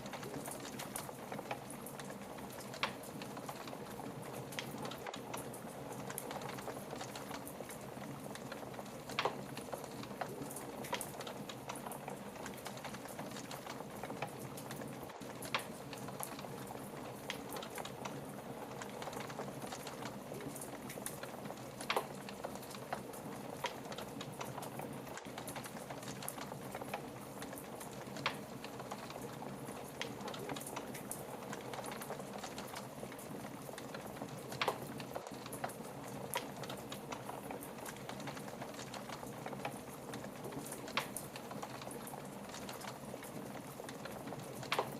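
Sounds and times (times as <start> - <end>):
fire crackling and popping: 0.0 - 44.9.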